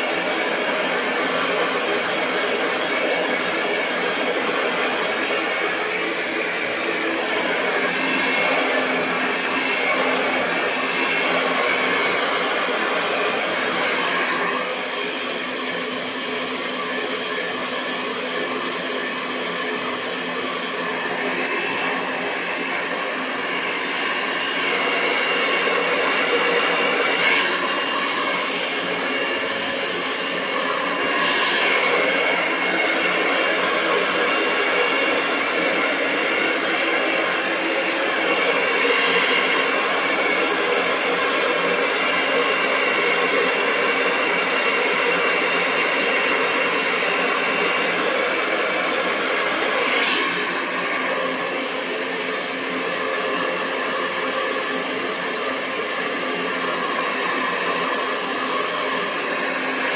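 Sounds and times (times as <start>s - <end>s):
hair dryer blowing: 0.0s - 59.9s.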